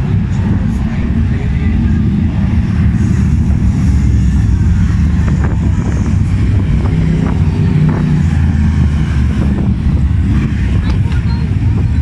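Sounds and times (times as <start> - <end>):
racing car engines rumbling: 0.0 - 12.0.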